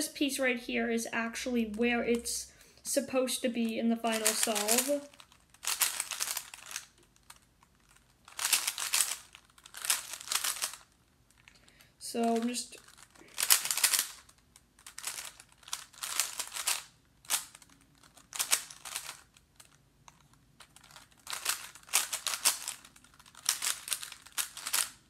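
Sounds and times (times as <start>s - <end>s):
puzzle cube clicking layer turns: 4.1s - 11.6s, 12.3s - 25.0s.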